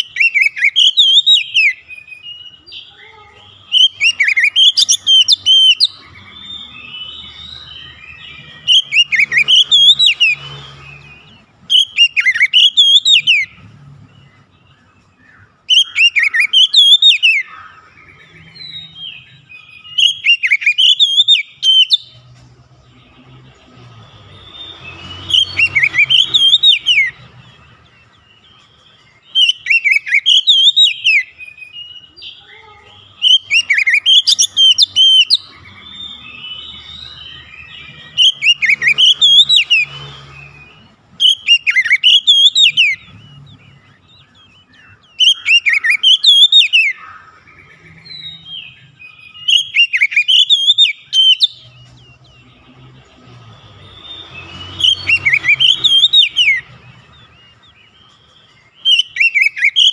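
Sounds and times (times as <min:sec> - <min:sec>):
bird singing warbled whistles: 0:00.0 - 0:02.9, 0:03.5 - 0:13.6, 0:14.4 - 0:22.2, 0:24.3 - 0:27.4, 0:28.6 - 0:32.4, 0:33.1 - 0:51.8, 0:52.4 - 0:59.9.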